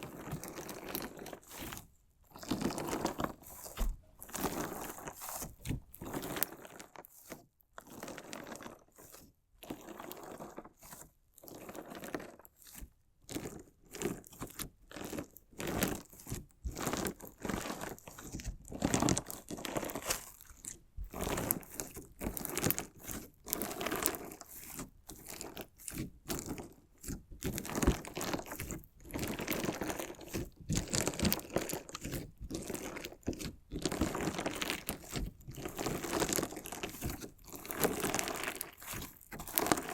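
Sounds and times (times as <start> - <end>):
crunchy slime crackling: 0.0 - 6.9, 14.2 - 39.9.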